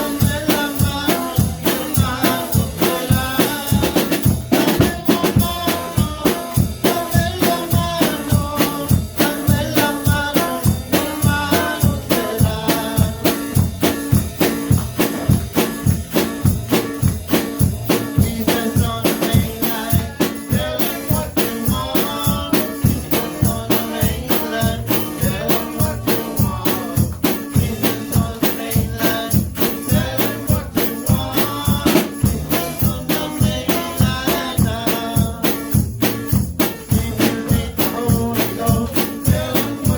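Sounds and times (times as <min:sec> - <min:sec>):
person singing: 0:00.0 - 0:14.5, 0:17.8 - 0:36.0, 0:36.6 - 0:39.9
tambourine jingle: 0:00.0 - 0:39.9
worship music with drum beat: 0:00.0 - 0:39.9.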